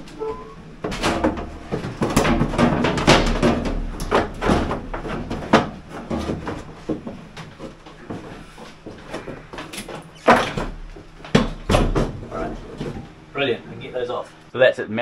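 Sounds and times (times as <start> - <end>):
tools knocking and rattling on metal: 0.0 - 13.9.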